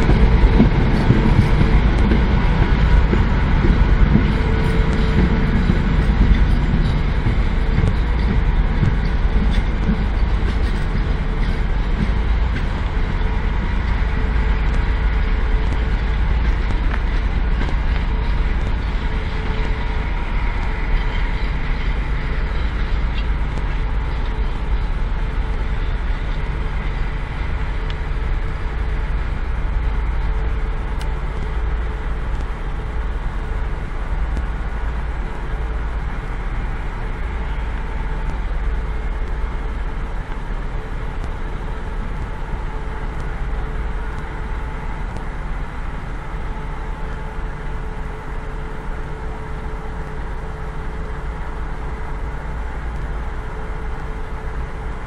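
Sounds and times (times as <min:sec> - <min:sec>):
locomotive diesel engine droning: 0:00.0 - 0:55.0
steady engine whine: 0:00.0 - 0:55.0.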